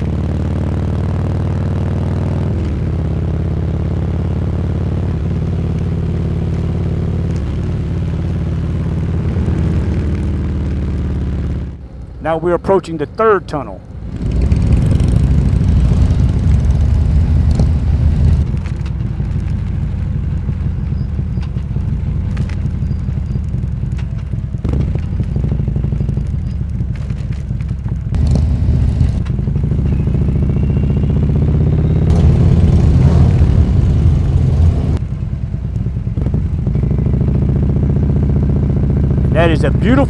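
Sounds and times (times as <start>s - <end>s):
motorcycle engine running: 0.0s - 12.1s, 13.8s - 40.0s.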